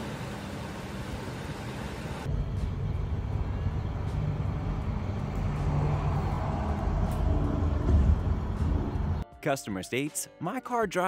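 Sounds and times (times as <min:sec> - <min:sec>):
car engine running: 0:00.0 - 0:09.2
engine and road noise inside cab: 0:00.0 - 0:09.2.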